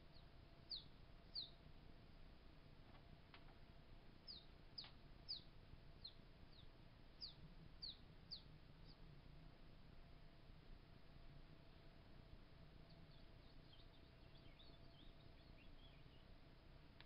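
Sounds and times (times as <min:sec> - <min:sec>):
faint bird chirping: 0:00.0 - 0:02.3, 0:03.0 - 0:09.4, 0:11.6 - 0:17.0.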